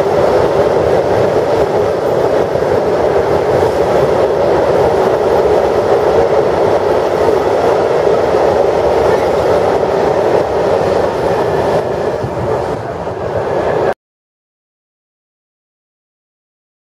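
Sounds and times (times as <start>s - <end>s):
freight train wheels rolling on rails: 0.0s - 14.0s.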